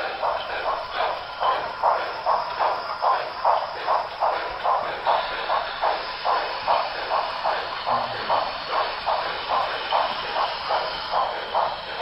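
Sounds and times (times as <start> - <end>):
model steam locomotive chuffing: 0.0 - 12.0.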